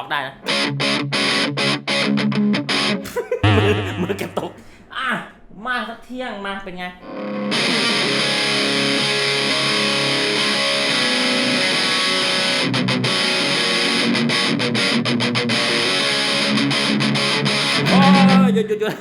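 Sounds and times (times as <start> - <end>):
distorted electric guitar riff: 0.5 - 4.7, 7.1 - 18.6.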